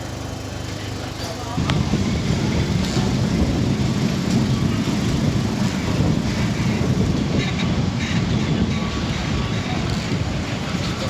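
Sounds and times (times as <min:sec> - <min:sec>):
tram rumbling along rails: 0:00.0 - 0:11.0.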